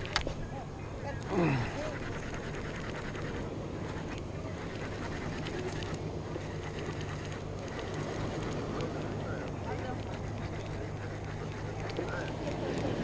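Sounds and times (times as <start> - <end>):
wind: 0.0 - 13.0
ocean noise: 1.2 - 13.0.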